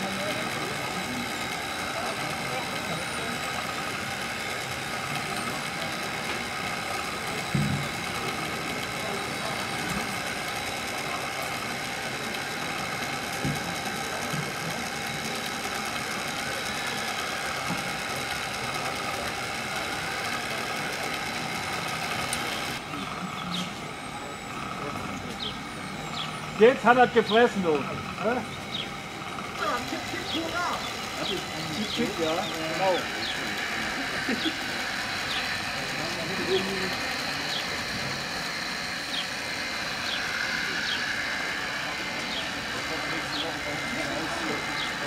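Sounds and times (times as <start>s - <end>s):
toy loader mechanical whine: 0.0s - 45.0s.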